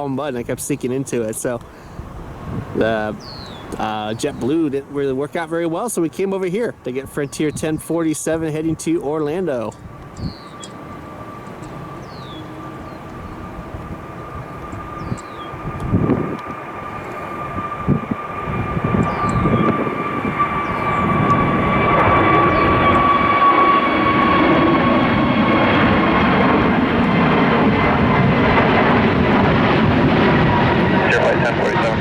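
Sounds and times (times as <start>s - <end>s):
jet airliner engines whining: 0.0s - 32.0s.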